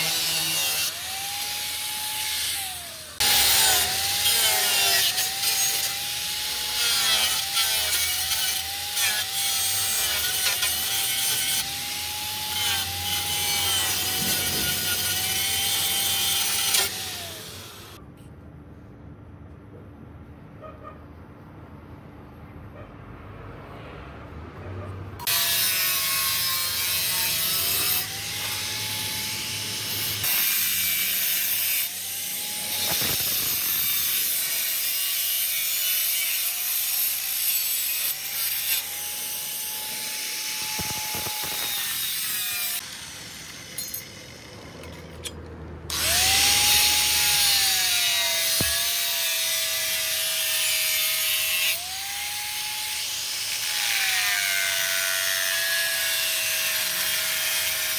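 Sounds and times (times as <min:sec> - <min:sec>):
angle grinder cutting sheet steel: 0:00.0 - 0:18.0, 0:25.2 - 0:57.9.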